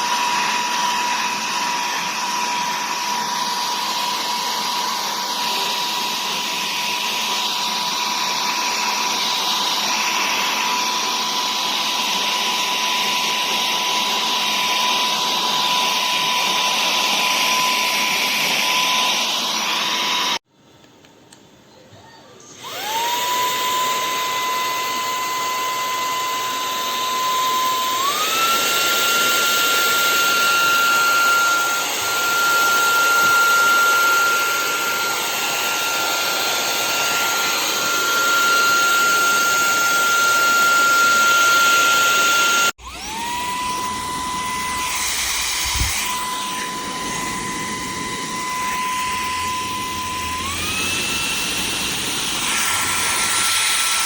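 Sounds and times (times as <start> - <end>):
handheld vacuum cleaner whine: 0.0 - 20.4, 22.5 - 54.0.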